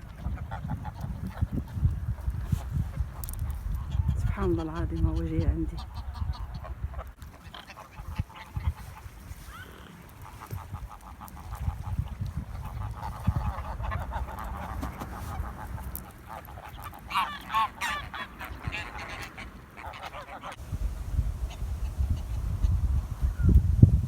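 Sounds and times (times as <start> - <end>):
wind rumble on microphone: 0.0 - 19.4, 20.6 - 24.0
geese honking: 3.8 - 23.6.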